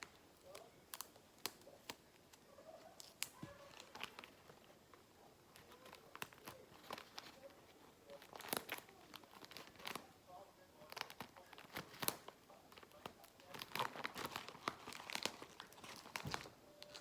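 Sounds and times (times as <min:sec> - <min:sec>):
paper clicks and crinkles: 0:00.0 - 0:10.2, 0:10.8 - 0:17.0
paper rustling: 0:00.0 - 0:10.2, 0:10.8 - 0:17.0.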